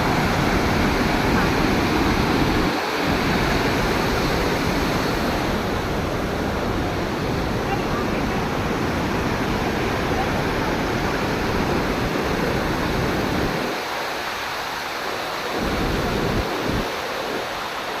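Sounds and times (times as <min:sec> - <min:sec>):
wind rumble on microphone: 0:00.0 - 0:14.0, 0:15.1 - 0:18.0
rushing water: 0:00.0 - 0:18.0.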